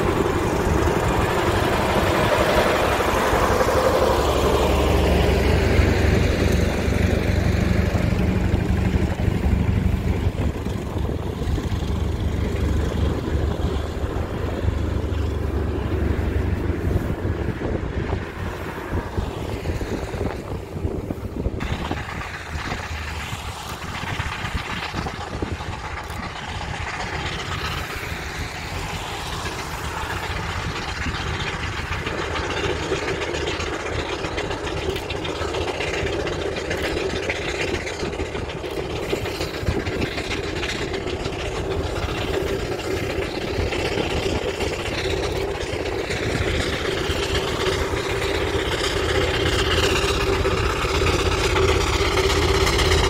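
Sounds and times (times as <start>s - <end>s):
steam engine mechanical rumble: 0.0s - 53.0s.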